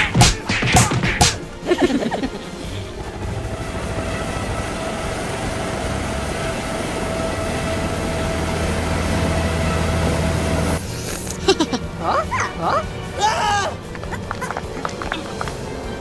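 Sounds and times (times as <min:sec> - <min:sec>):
propeller engines droning: 0:01.4 - 0:16.0.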